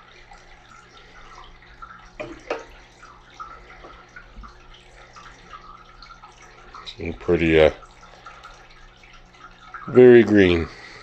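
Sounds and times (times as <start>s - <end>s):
water sloshing and dripping: 0.0s - 11.0s.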